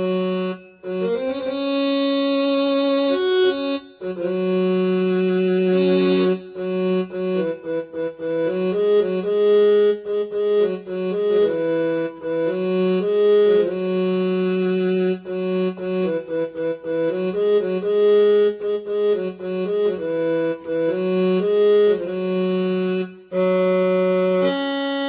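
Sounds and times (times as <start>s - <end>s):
keyboard playing slow melody: 0.0s - 25.0s.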